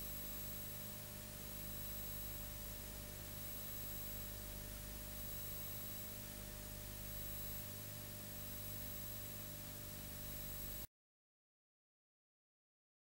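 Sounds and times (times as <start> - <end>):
faint high whine: 0.0 - 10.9
low electrical hum: 0.0 - 10.9.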